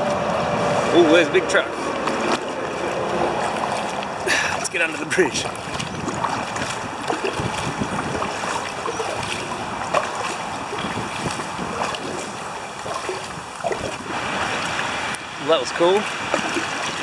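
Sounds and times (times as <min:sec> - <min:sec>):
freeway traffic rushing: 0:00.0 - 0:16.8
kayak paddle splashing: 0:00.2 - 0:17.0.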